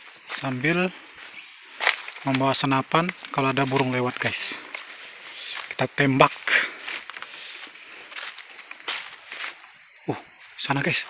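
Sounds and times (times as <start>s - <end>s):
high-pitched insect drone: 0.0s - 11.0s
footsteps on leaf litter: 0.3s - 9.7s.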